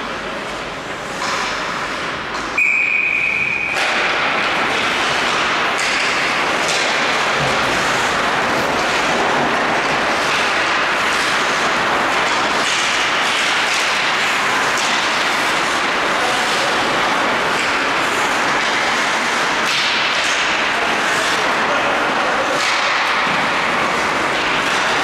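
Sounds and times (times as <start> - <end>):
skates scraping ice: 0.0 - 2.6, 3.2 - 25.0
hockey stick and puck clicks: 0.8 - 25.0.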